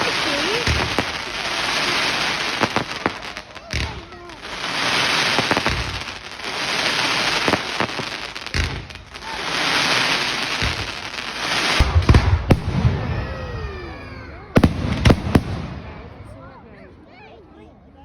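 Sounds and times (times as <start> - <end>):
fireworks whistling: 0.0 - 16.2
fireworks bangs: 0.0 - 16.4
fireworks crackling and fizzing: 0.0 - 16.4.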